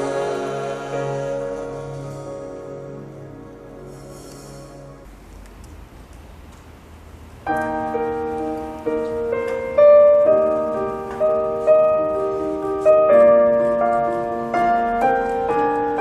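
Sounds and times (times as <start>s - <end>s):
slow piano chords: 0.0s - 5.3s, 7.4s - 16.0s.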